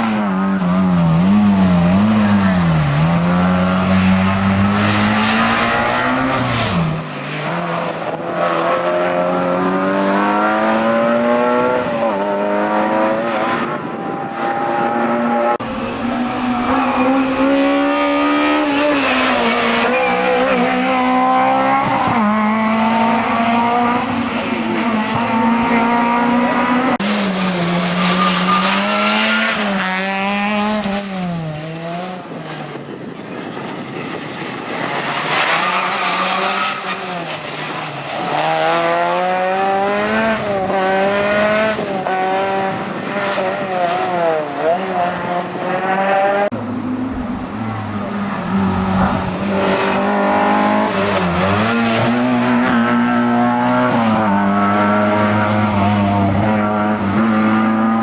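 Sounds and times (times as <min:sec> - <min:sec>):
rally car engine at full throttle: 0:00.0 - 0:58.0.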